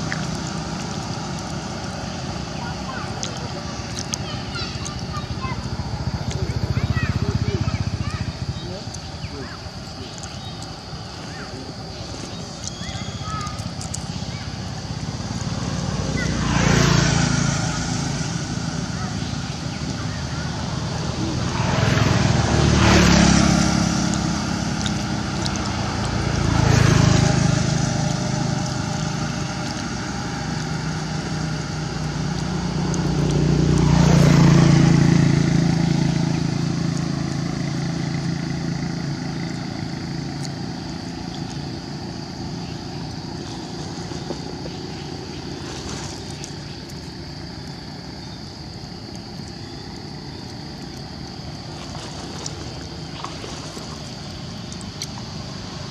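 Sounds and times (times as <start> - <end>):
motorbikes passing: 0.0 - 55.9.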